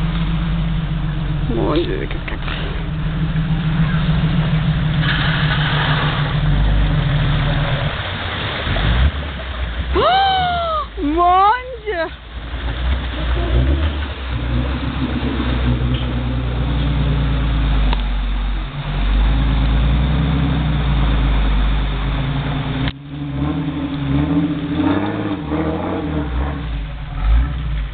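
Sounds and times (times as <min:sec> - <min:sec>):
car engine running under load: 0:00.0 - 0:27.9
water splashing against wheels: 0:00.0 - 0:27.9.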